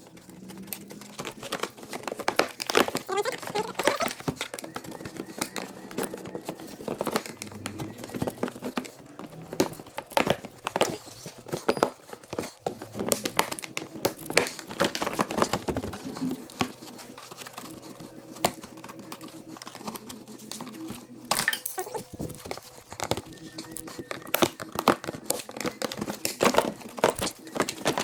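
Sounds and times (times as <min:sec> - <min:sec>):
plastic crackling rustles: 0:00.0 - 0:28.0.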